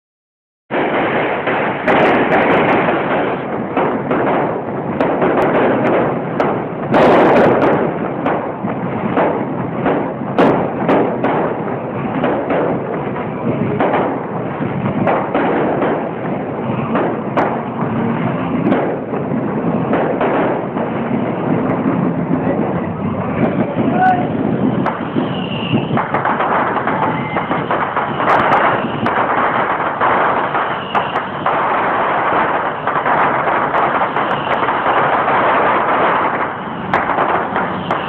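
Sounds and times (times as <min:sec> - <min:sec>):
continuous noisy rush: 0:00.7 - 0:38.0
fireworks bursting: 0:00.7 - 0:38.0.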